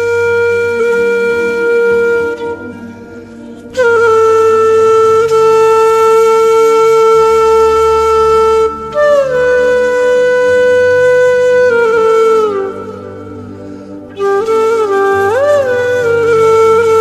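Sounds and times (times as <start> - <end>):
flute-like wind instrument: 0.0 - 17.0.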